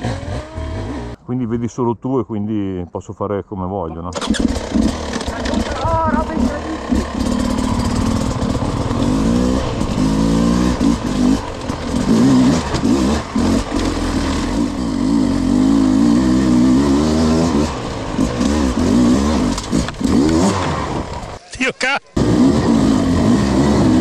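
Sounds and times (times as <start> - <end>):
dirt bike engine revving: 0.0 - 1.2, 4.2 - 21.4, 22.1 - 24.0.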